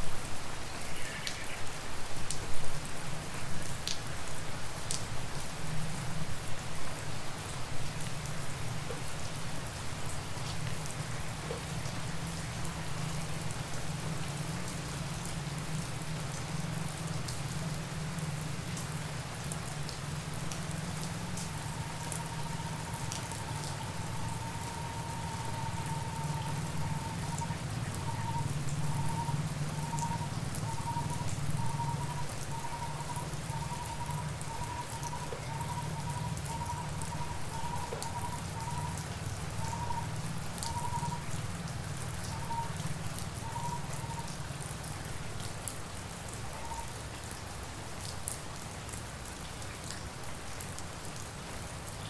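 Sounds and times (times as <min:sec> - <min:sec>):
rain falling on surfaces: 0:00.0 - 0:52.0.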